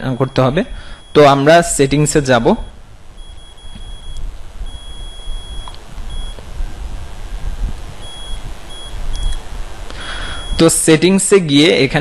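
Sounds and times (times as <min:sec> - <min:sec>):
low microphone rumble: 0:00.0 - 0:10.7
high-pitched electronic whine: 0:00.0 - 0:11.4.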